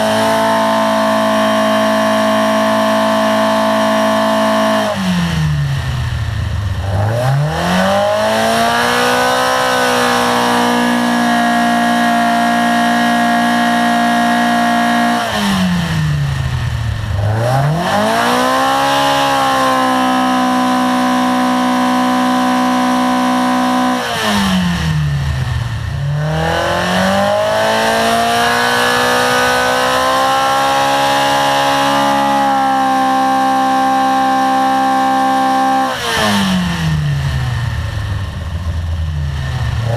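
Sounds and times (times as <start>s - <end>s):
engine revving on dynamometer: 0.0s - 38.0s, 39.4s - 39.9s.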